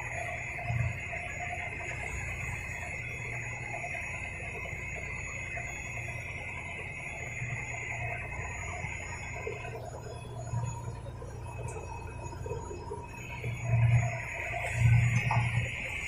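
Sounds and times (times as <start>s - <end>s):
boat engine droning: 0.0s - 16.0s
high steady whine: 0.0s - 16.0s.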